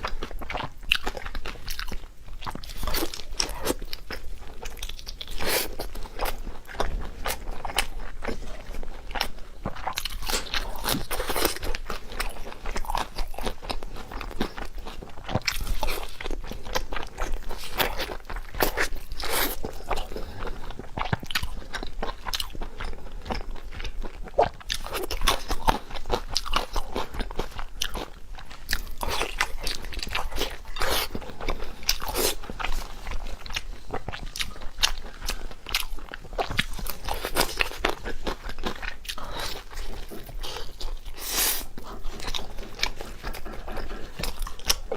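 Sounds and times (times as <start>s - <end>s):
person crunching and chewing food: 0.0s - 44.9s.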